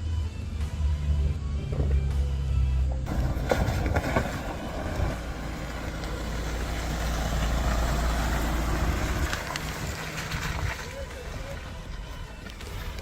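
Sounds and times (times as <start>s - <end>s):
engine running with low drone: 0.0s - 13.0s.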